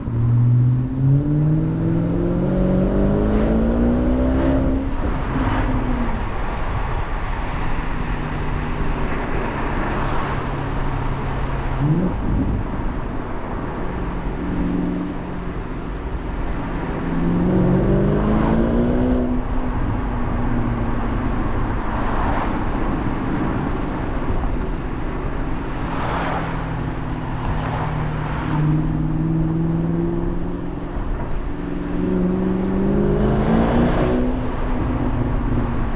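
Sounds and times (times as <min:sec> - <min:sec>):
car engine accelerating: 0:00.0 - 0:06.4, 0:08.0 - 0:22.4, 0:23.0 - 0:35.9
tyre and road noise: 0:00.0 - 0:35.9.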